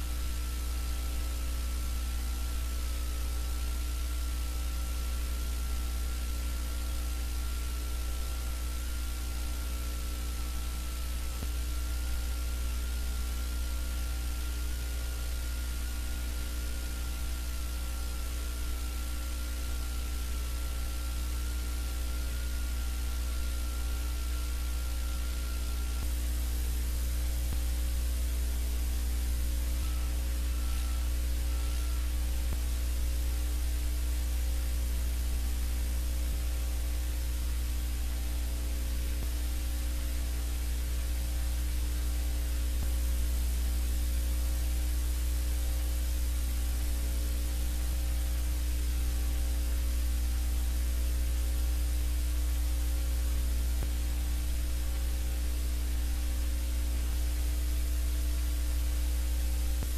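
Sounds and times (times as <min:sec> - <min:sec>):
electrical mains hum: 0:00.0 - 0:59.9
static hiss: 0:00.0 - 0:59.9.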